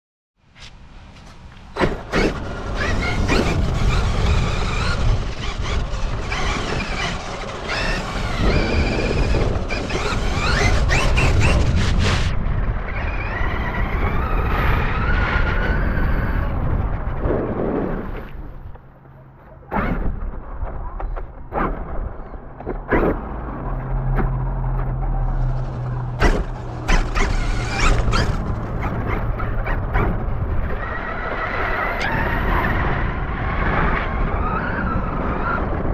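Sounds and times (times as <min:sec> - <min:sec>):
rc car tyre and chassis rumble: 0:00.5 - 0:35.9
motor whine: 0:01.8 - 0:20.3, 0:20.9 - 0:35.8.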